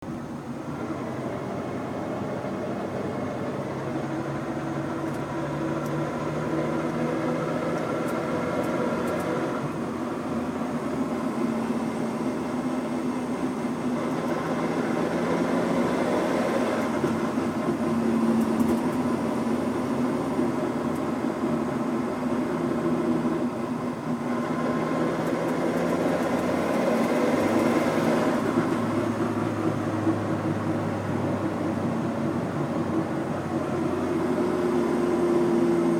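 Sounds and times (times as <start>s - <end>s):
car engine accelerating: 0.3s - 35.9s.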